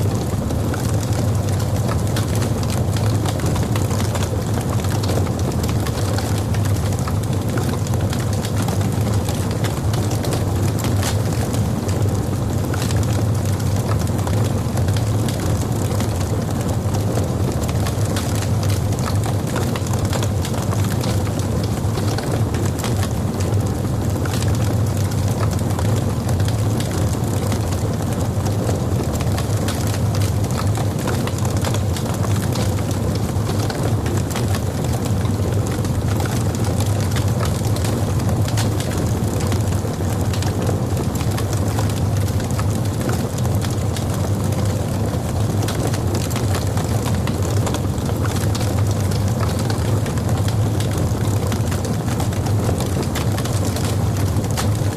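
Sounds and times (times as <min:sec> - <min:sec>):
fireplace fire crackling: 0:00.0 - 0:54.9.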